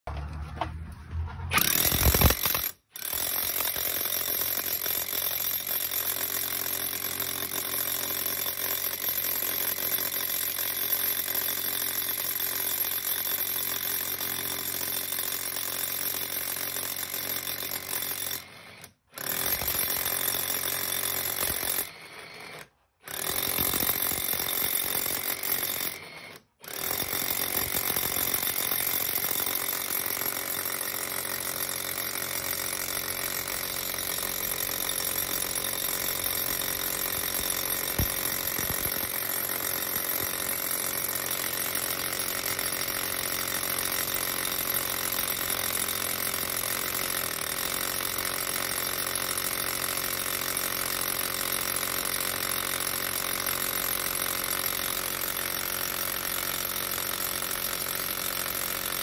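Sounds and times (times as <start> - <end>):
rotary hammer drilling into brick: 1.5 - 59.0.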